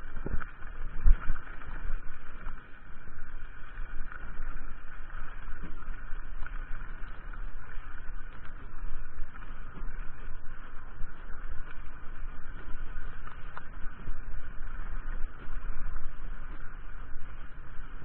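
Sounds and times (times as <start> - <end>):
bike tyre rumble: 0.0 - 18.0.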